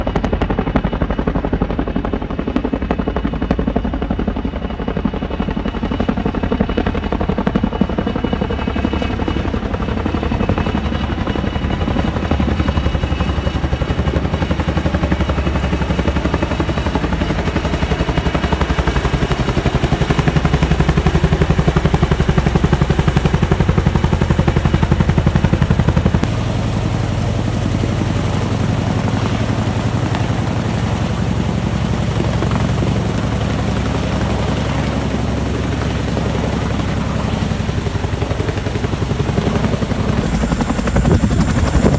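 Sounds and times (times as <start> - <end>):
helicopter rotor chopping: 0.0 - 41.9.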